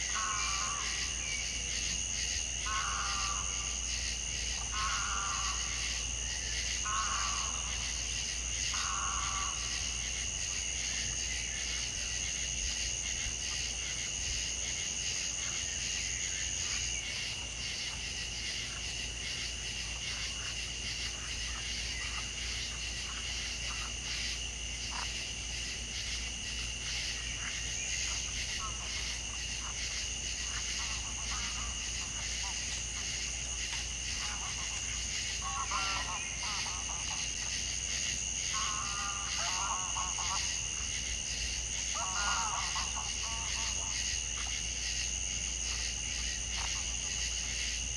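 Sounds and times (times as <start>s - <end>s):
frog croaking: 0.0s - 47.8s
insects trilling: 0.0s - 47.9s.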